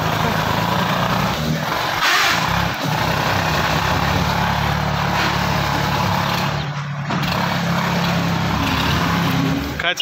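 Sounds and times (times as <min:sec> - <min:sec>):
tractor diesel engines under load: 0:00.0 - 0:10.0.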